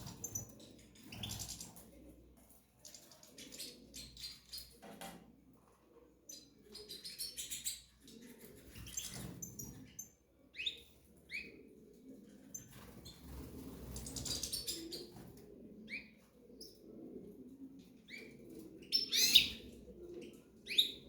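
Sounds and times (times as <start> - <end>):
cage birds chirping and trilling: 0.0 - 21.0.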